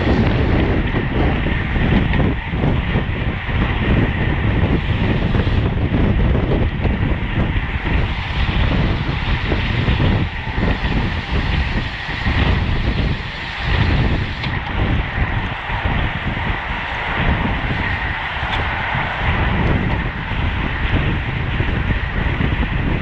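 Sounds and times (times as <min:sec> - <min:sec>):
wind noise on microphone: 0:00.0 - 0:23.0.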